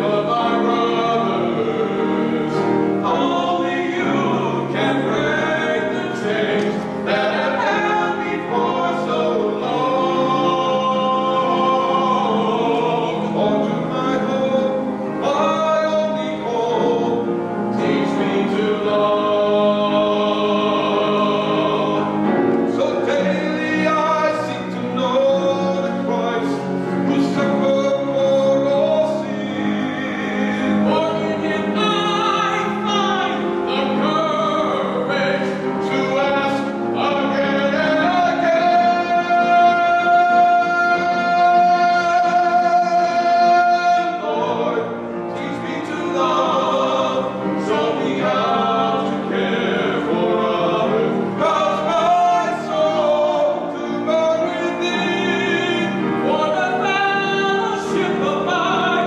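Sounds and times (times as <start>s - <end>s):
man and woman singing operatic duet: 0.0s - 59.0s
musical accompaniment: 0.0s - 59.0s.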